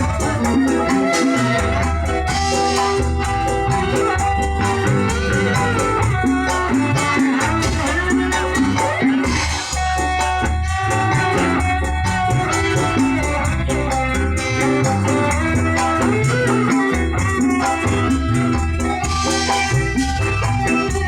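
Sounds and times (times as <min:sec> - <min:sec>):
loud music with heavy bass: 0:00.0 - 0:21.0.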